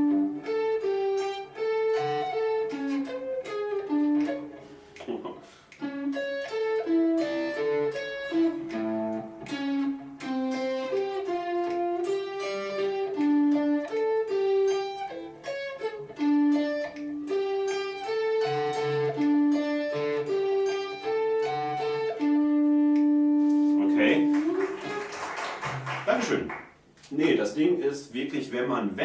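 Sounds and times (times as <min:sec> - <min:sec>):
electric guitar arpeggiated riff: 0:00.0 - 0:25.8.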